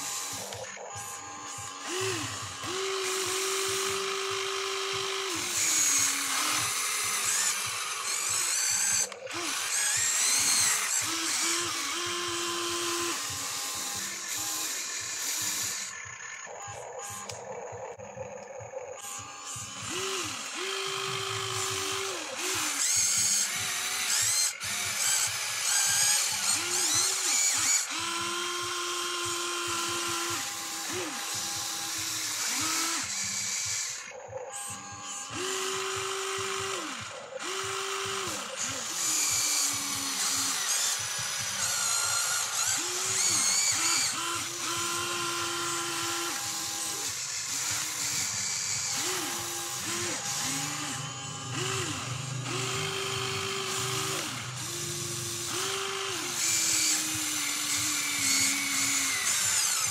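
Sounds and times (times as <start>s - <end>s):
toy excavator motors whining: 0.0s - 59.9s.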